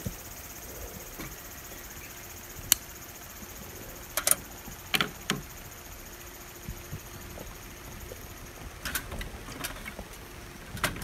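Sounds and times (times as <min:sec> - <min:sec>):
high insect chorus: 0:00.0 - 0:11.0.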